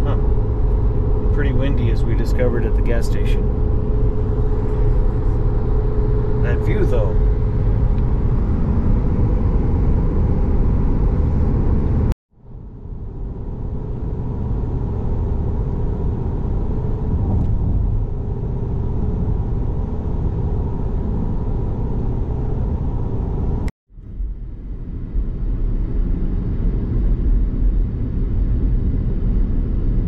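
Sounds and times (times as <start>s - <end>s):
car cabin road rumble: 0.0s - 12.1s, 13.0s - 30.0s
faint hum: 0.0s - 30.0s.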